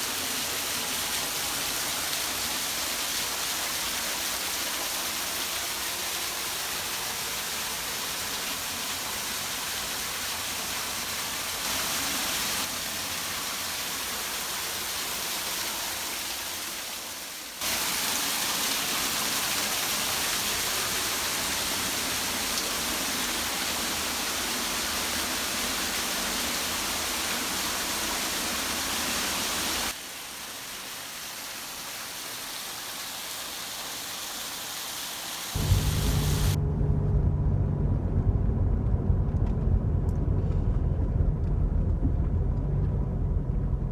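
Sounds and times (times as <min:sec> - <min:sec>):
falling water rushing: 0:00.0 - 0:36.6.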